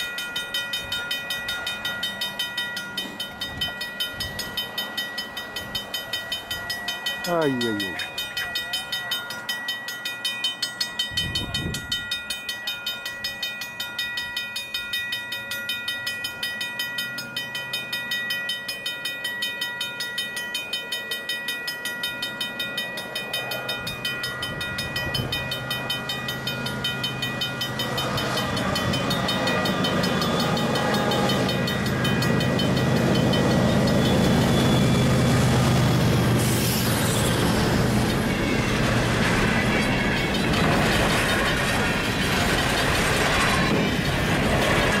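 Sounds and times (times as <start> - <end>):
diesel locomotives rumbling: 0.0 - 45.0
level crossing warning bell: 0.0 - 45.0.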